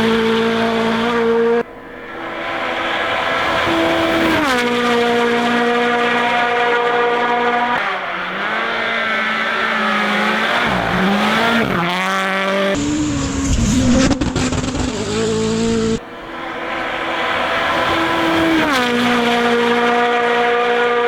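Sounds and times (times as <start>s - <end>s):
rally car engines at full throttle: 0.0s - 21.0s.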